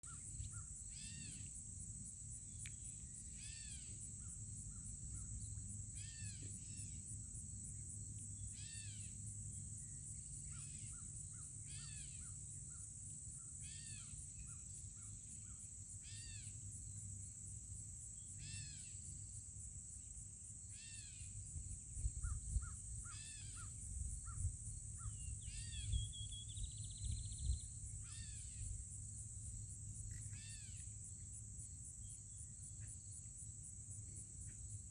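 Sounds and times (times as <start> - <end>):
insect trill: 0.0 - 34.9.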